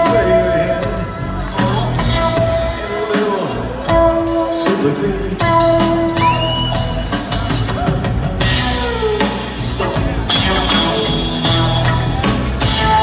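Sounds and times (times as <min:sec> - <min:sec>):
drum kit: 0:00.0 - 0:13.0
electric guitar: 0:00.0 - 0:13.0
upright bass: 0:00.0 - 0:13.0.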